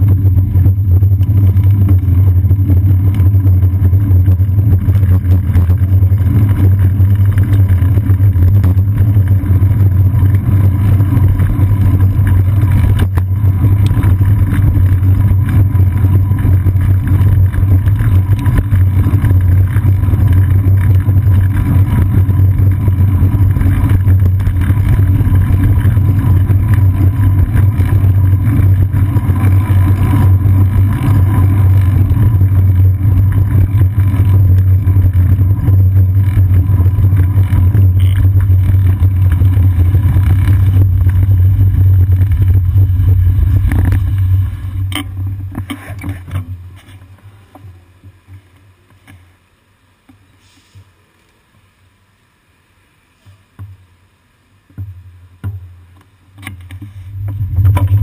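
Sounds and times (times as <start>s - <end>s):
wind and road rumble: 0.0s - 51.8s, 53.4s - 58.0s.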